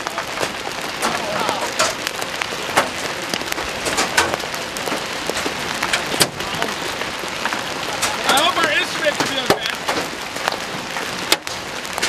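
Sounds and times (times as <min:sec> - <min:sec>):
hailstones clacking: 0:00.0 - 0:12.0
rain hiss: 0:00.0 - 0:12.0.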